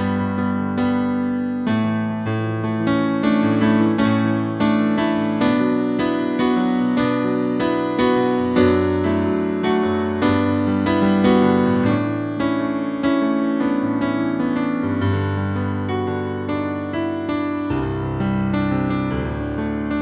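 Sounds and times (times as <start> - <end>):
keyboard notes music: 0.0 - 20.0.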